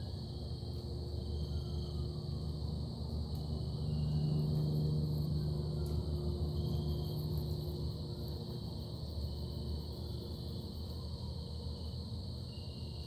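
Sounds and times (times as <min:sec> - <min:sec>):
high-pitched whine: 0:00.0 - 0:13.0
low droning hum: 0:00.0 - 0:13.0.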